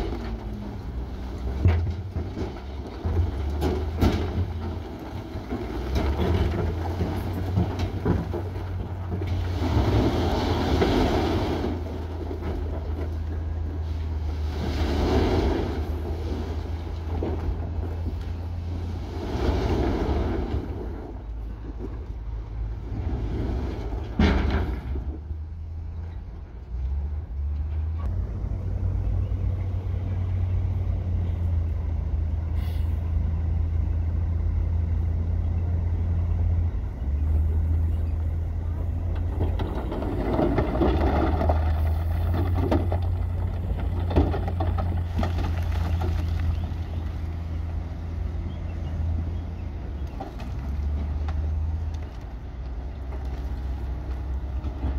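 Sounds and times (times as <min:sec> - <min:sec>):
diesel machinery engine hum: 0:00.0 - 0:54.9.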